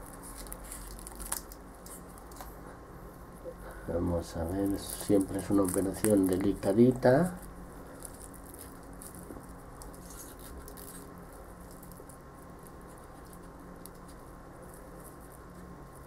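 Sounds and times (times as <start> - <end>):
plastic film crinkling: 0.0 - 2.6, 4.1 - 16.0
steady low hum: 0.0 - 16.0.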